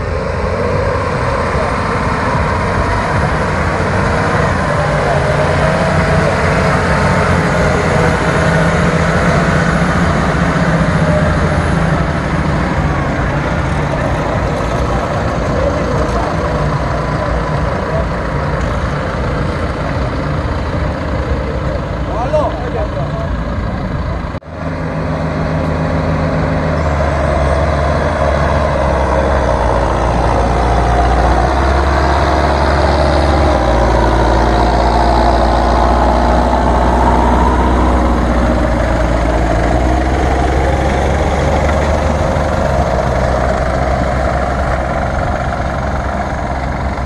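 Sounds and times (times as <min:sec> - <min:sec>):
tractor diesel engines running hard: 0:00.0 - 0:47.0.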